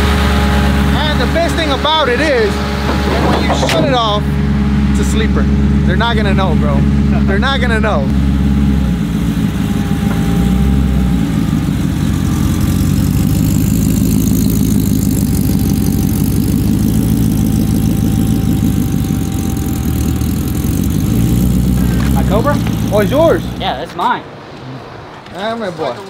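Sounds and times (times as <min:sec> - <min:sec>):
supercharged engine idling: 0:00.0 - 0:24.0.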